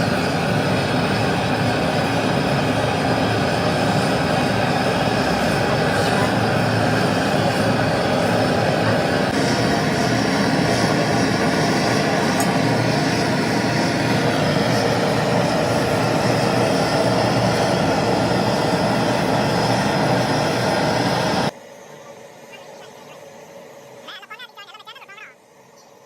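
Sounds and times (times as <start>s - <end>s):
machine running loudly: 0.0s - 21.6s.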